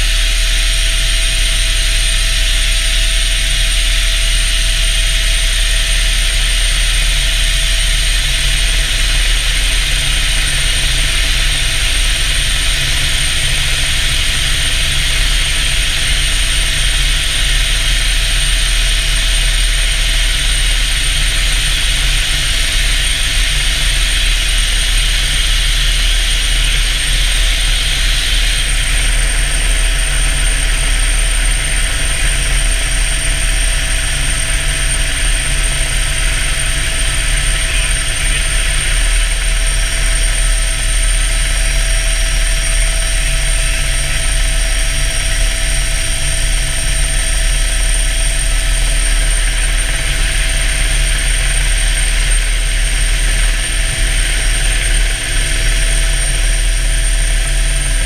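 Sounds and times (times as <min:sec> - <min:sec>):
helicopter turbine and rotor: 0:00.0 - 0:58.0.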